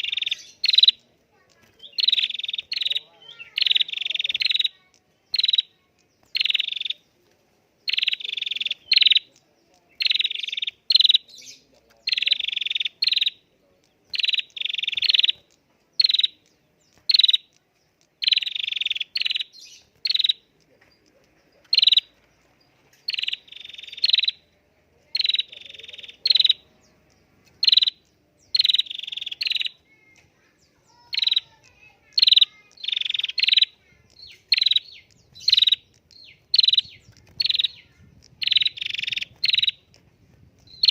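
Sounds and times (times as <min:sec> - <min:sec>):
bird calling with buzzy chatter: 0:00.0 - 0:40.9.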